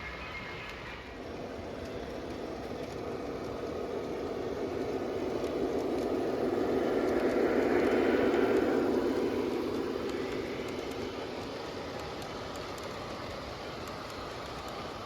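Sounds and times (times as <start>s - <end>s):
toy train running on track: 0.0s - 15.0s.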